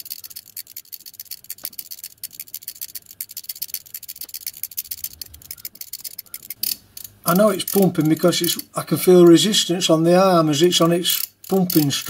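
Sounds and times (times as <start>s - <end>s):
ratchet clicking: 0.0s - 8.7s, 10.8s - 12.0s.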